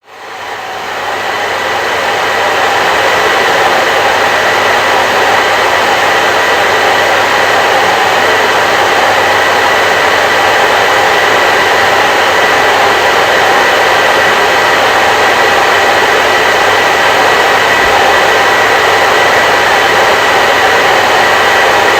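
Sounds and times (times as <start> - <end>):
hair dryer running: 0.0 - 21.9.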